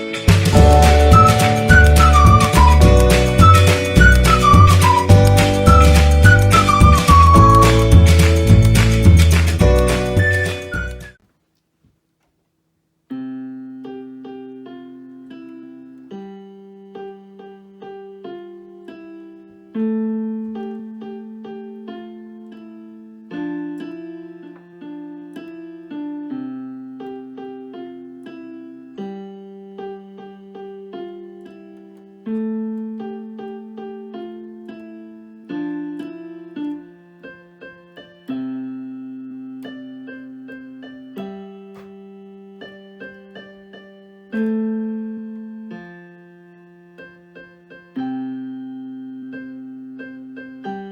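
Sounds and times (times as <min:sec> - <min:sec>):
solo piano piece: 0:00.0 - 0:11.2, 0:13.1 - 0:50.9.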